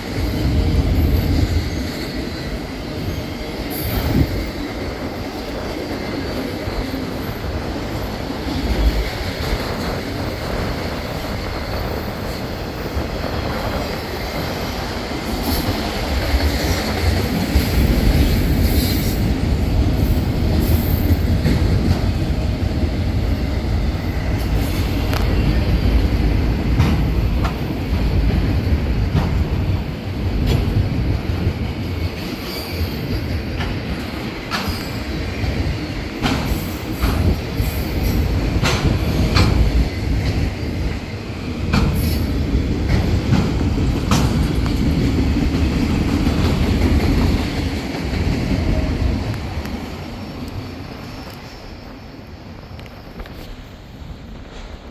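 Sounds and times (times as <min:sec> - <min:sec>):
wheels clanking on rail joints: 0:00.0 - 0:51.9
freight train rumble: 0:00.0 - 0:54.9.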